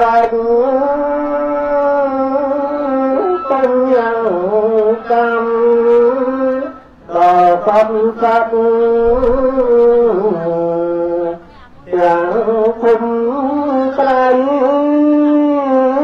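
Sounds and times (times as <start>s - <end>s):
prayer chanting over microphone: 0.0s - 16.0s.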